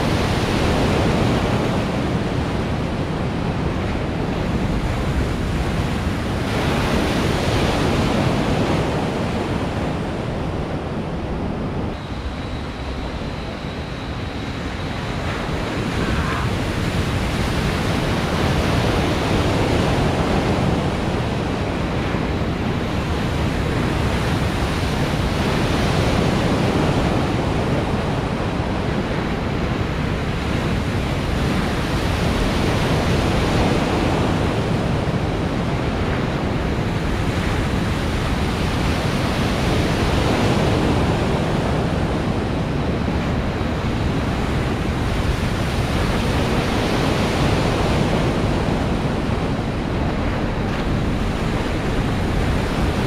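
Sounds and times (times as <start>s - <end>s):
breaking waves churning: 0.0s - 53.0s
wind buffeting microphone: 0.0s - 53.0s.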